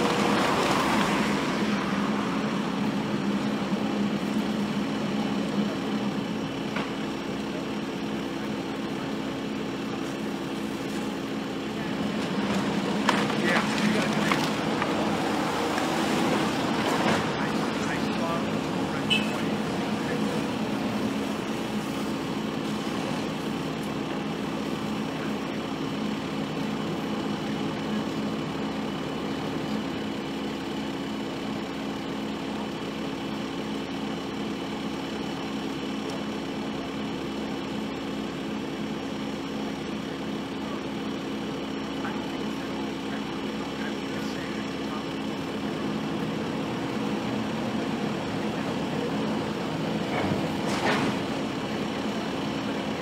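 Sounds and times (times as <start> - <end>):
heavy engine idling: 0.0 - 53.0.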